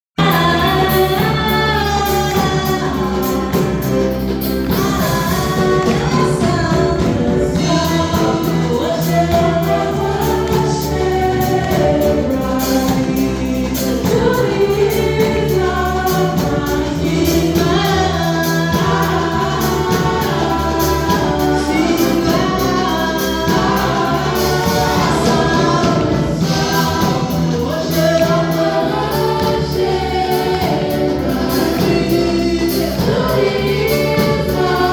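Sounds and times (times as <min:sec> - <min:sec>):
backing instruments with steady beat: 0:00.2 - 0:34.9
choir singing gospel song: 0:00.2 - 0:34.9.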